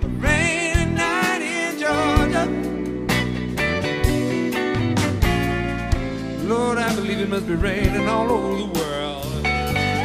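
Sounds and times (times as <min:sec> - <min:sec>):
bass guitar: 0:00.0 - 0:10.0
drums: 0:00.0 - 0:10.0.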